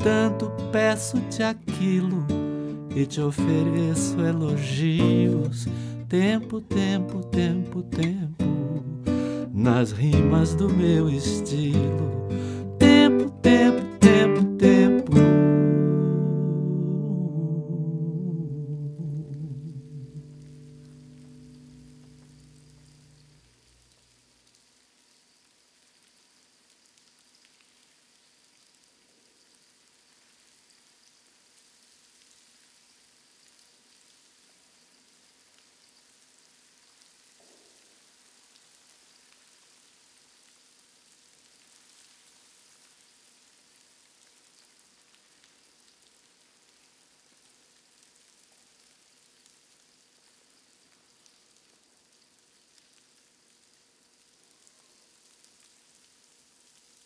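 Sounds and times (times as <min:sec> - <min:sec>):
faint hiss with crackle: 0:00.0 - 0:57.0.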